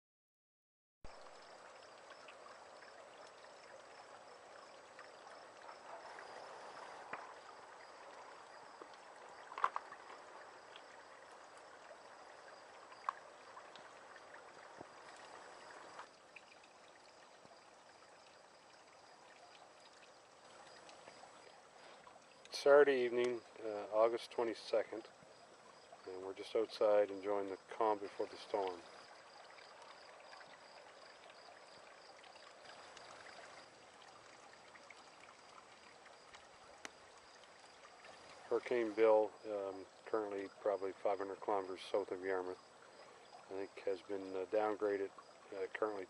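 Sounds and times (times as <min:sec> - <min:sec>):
faint steady hiss: 0:01.1 - 0:46.0.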